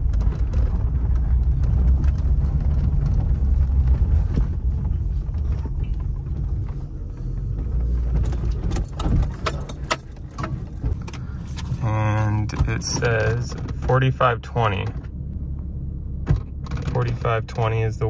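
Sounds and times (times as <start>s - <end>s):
sharp clicks and rattles: 0.0s - 15.2s, 16.2s - 18.0s
car engine rumbling: 0.0s - 18.0s.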